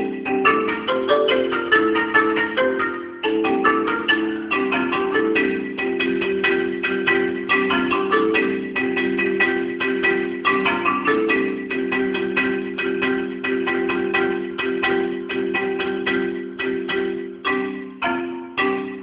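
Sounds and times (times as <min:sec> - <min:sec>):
marimba playing: 0:00.0 - 0:19.0.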